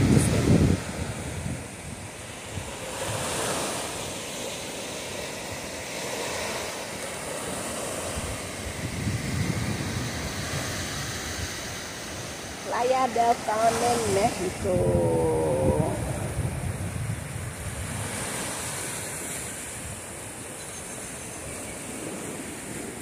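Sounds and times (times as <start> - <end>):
sea waves breaking: 0.0 - 23.0
wind on microphone: 0.0 - 23.0.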